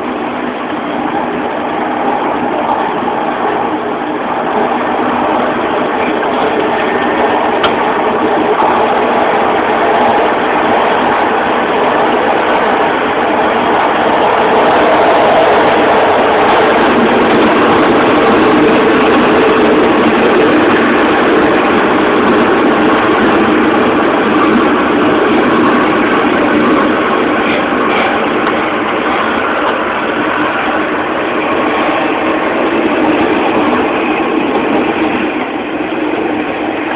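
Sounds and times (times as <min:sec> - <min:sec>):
metro train running: 0:00.0 - 0:36.9.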